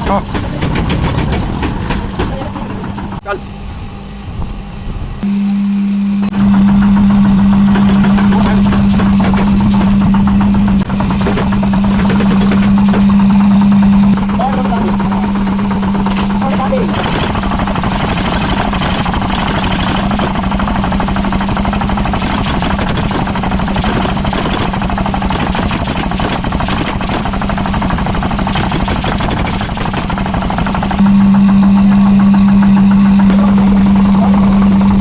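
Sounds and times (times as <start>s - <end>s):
workshop machine humming and rattling: 0.0s - 35.0s.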